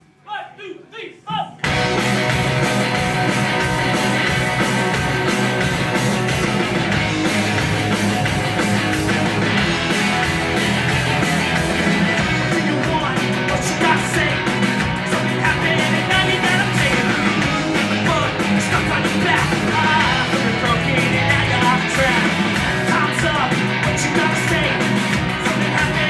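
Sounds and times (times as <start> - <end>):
electric guitar: 1.6 - 26.0
punk rock band playing live: 1.6 - 26.0.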